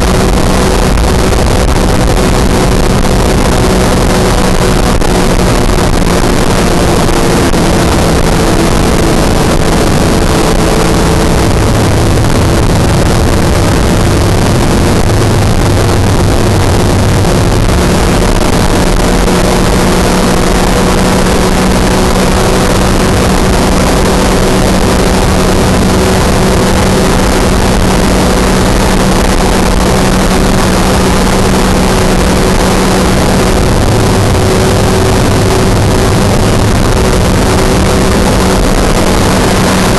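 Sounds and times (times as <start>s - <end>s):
aircraft engine and propeller droning: 0.0s - 39.9s
wind rush over microphone: 0.0s - 39.9s.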